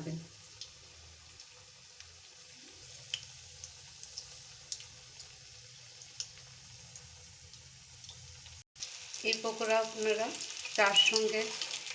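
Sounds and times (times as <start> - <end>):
food sizzling in hot oil: 0.0 - 11.9.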